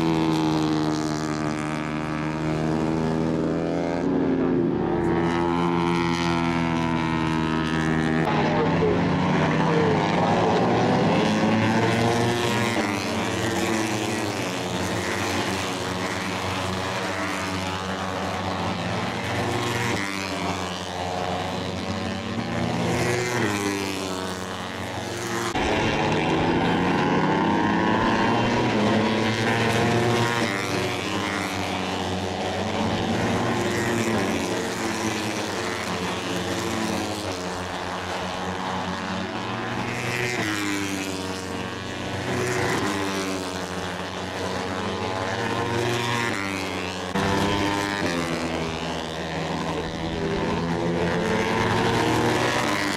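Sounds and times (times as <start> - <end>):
racing motorcycle engines revving: 0.0 - 52.9.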